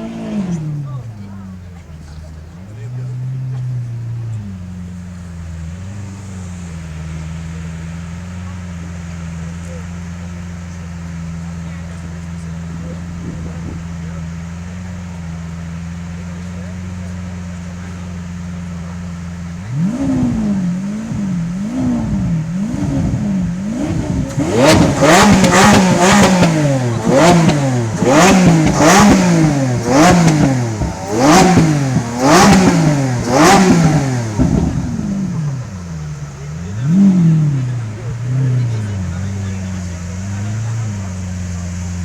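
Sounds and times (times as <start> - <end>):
car engine idling and revving: 0.0 - 42.0
exhaust cracks: 0.0 - 42.0.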